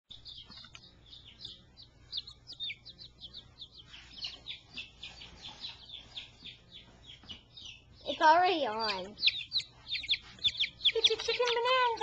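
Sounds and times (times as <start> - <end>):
baby chicks peeping: 0.1 - 12.0.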